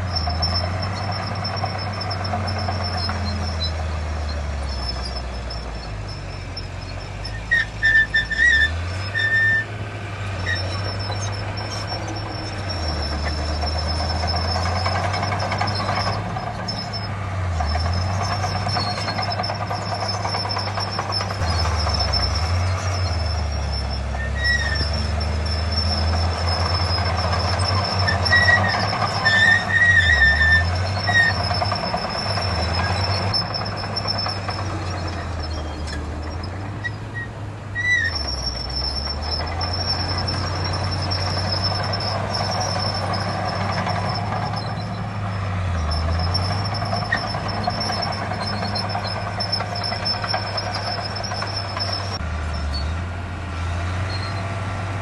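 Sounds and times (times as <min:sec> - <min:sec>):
high squeals: 0:00.0 - 0:53.0, 0:53.7 - 0:54.5
diesel engine running: 0:00.0 - 0:55.0.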